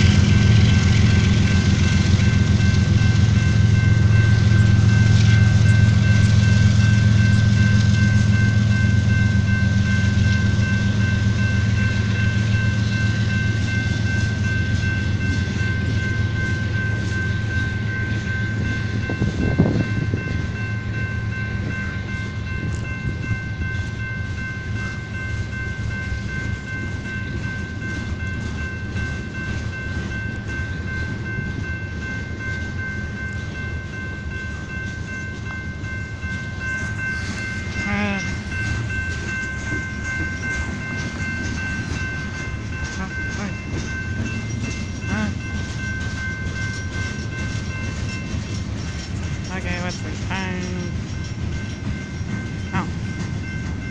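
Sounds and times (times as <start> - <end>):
crossing warning bell ringing: 0.0 - 53.9
diesel locomotive drone: 0.0 - 53.9
train wheels clickety-clack: 0.0 - 53.9.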